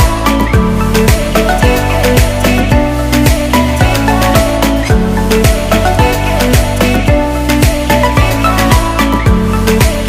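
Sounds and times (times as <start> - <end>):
deep kick drum: 0.0 - 10.0.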